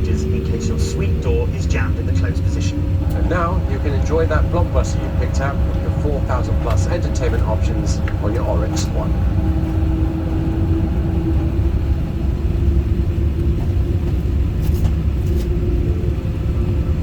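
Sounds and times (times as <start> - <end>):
airliner cabin rumble: 0.0 - 17.0
constant hum: 0.0 - 17.0.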